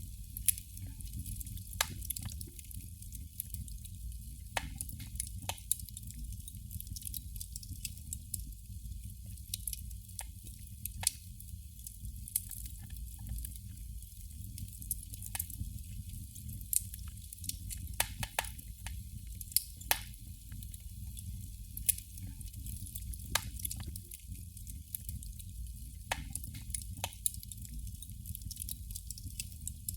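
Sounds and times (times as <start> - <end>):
candle flame crackling: 0.0 - 29.9.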